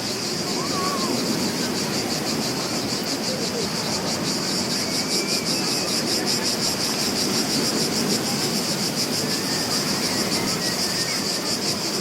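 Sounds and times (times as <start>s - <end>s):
cicadas buzzing: 0.0s - 12.0s
sea waves: 0.0s - 12.0s.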